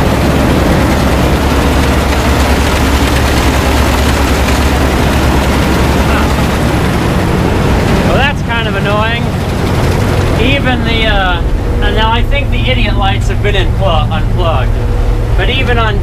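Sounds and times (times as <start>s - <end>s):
combine engine running: 0.0s - 16.0s.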